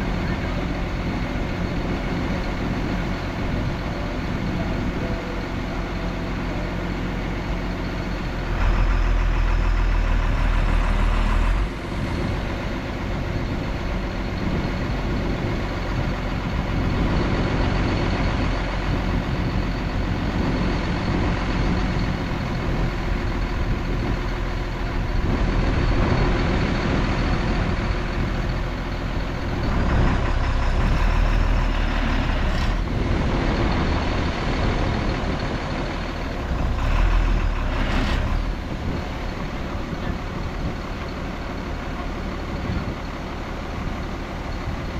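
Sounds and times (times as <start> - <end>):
heavy machinery diesel engines: 0.0 - 44.9.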